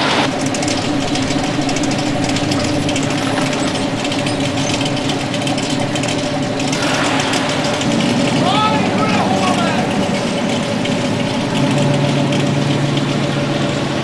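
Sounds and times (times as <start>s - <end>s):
car engines idling: 0.0s - 14.0s.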